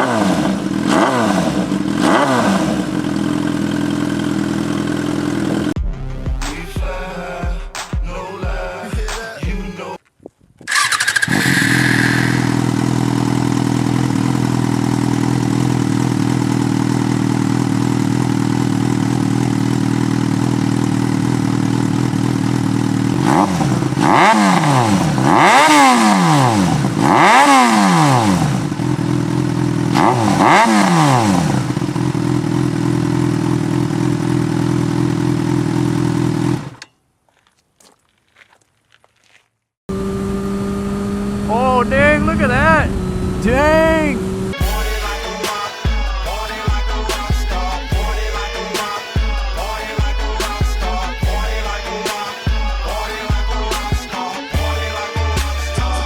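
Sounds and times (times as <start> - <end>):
motorcycle engine idling and revving: 0.0 - 9.6, 10.7 - 37.0, 39.9 - 56.0.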